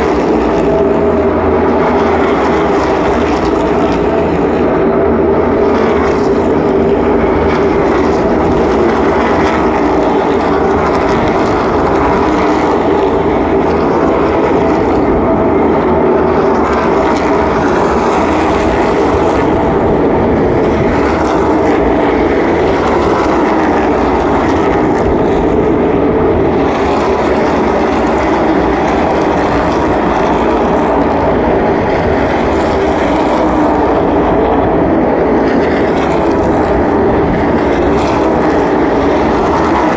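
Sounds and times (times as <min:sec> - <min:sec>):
race cars droning at speed: 0:00.0 - 0:39.9.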